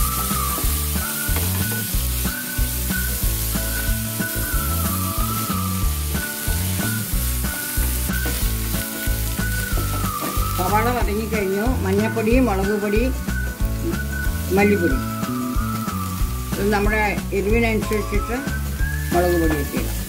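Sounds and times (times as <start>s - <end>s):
background music: 0.0s - 20.0s
onions sizzling in oil: 0.0s - 20.0s.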